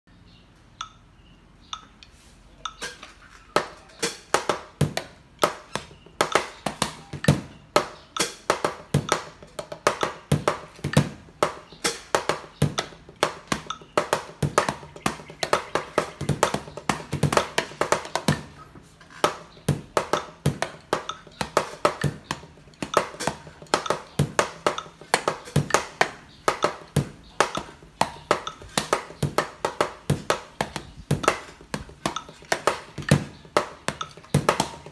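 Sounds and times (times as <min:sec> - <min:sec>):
drumsticks on practice pads: 0:00.8 - 0:34.9
bass drum pedal on kick pad: 0:04.7 - 0:34.9.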